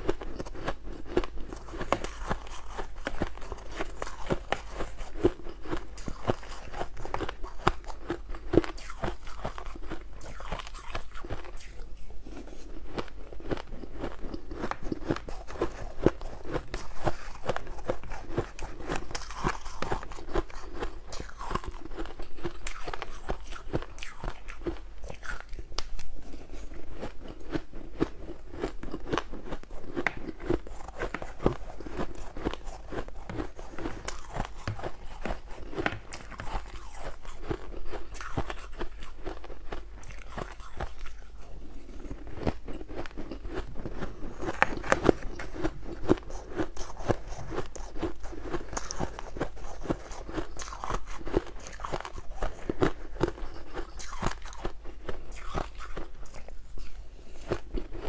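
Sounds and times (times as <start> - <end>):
chewing crunchy shaved ice: 0.0 - 58.0.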